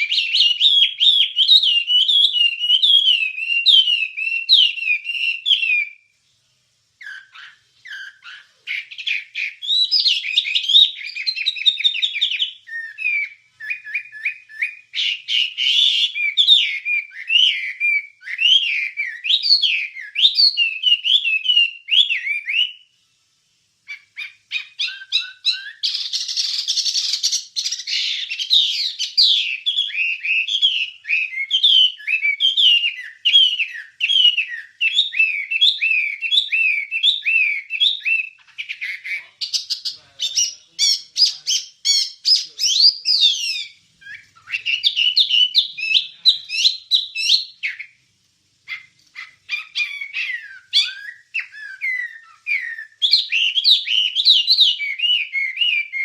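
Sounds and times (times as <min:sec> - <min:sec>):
songbird chirping and whistling: 0:00.0 - 0:56.0.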